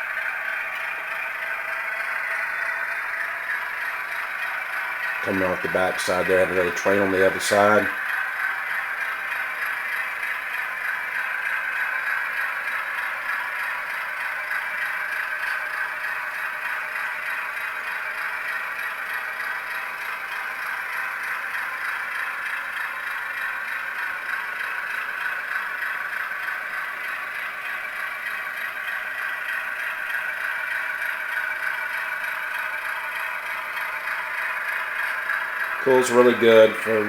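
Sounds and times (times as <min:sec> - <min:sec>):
diesel engine sound from small speaker: 0:00.0 - 0:37.0
wheels rattling on rails: 0:00.0 - 0:37.0.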